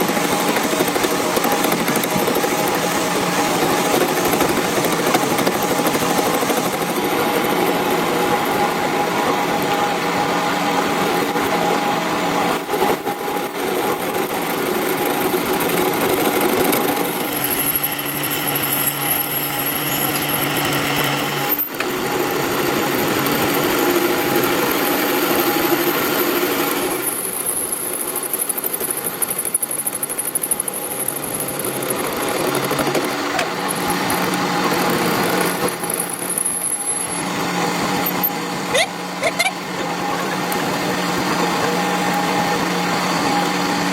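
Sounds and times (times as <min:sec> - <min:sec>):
metal lathe whining: 0:00.0 - 0:43.9.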